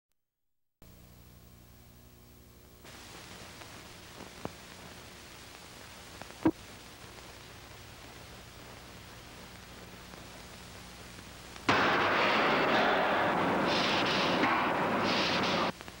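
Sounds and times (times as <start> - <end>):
film soundtrack hiss: 0.8 - 16.0.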